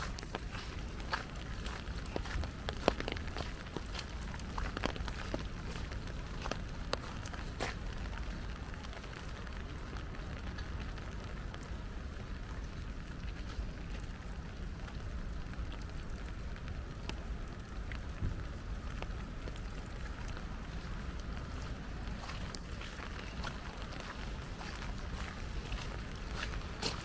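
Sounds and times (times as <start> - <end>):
light rain falling: 0.0 - 27.0
steady low rumble: 0.0 - 27.0.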